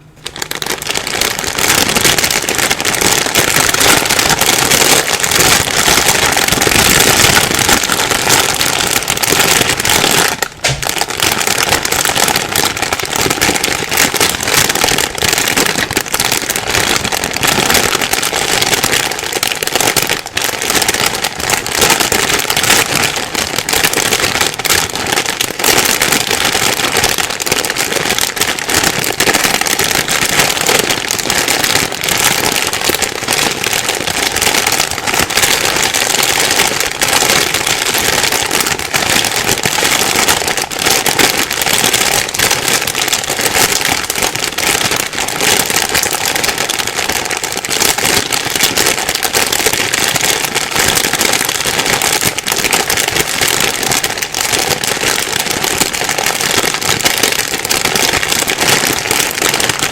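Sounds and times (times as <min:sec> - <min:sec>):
plastic bag rustling and crinkling: 0:00.0 - 0:59.9.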